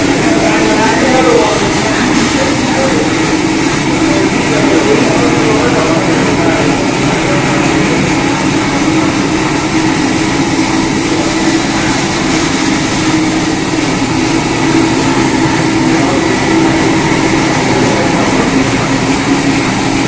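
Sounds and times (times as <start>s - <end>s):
carpet cleaning machine humming: 0.0s - 20.0s.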